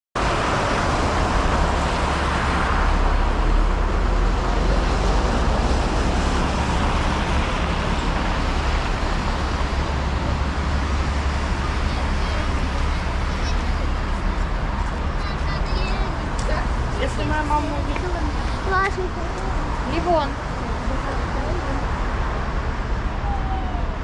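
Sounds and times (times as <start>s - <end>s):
city street traffic: 0.2s - 24.0s.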